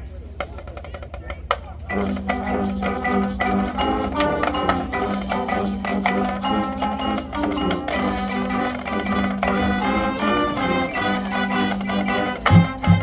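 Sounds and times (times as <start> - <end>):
marching band playing: 1.8 - 13.0.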